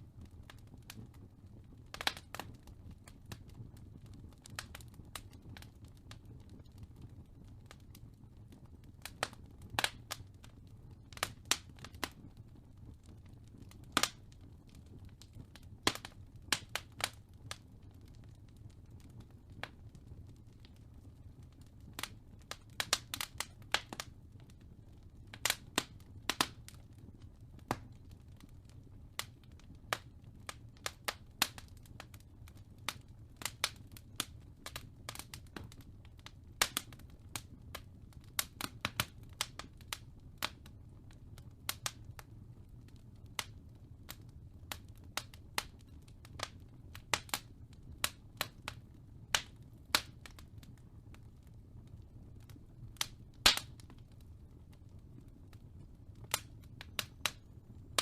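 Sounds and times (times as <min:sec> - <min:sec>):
low fire rumble: 0:00.0 - 0:58.0
wood fire crackling: 0:00.0 - 0:58.0.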